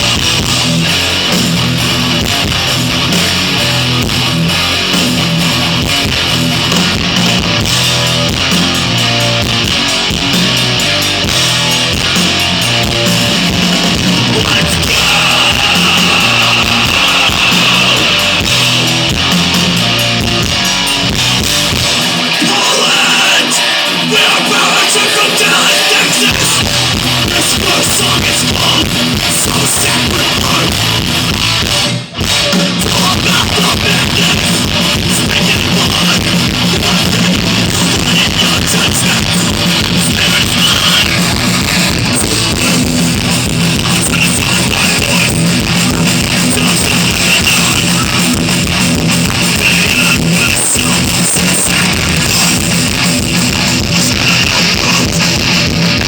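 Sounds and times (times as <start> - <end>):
bass and drums: 0.0 - 56.0
distorted electric guitars: 0.0 - 56.0.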